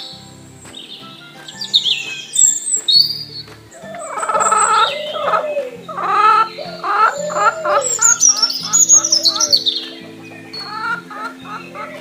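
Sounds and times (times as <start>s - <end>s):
background music with held notes: 0.0s - 12.0s
birds chirping: 0.0s - 12.0s
rapid high descending chirps: 0.0s - 12.0s.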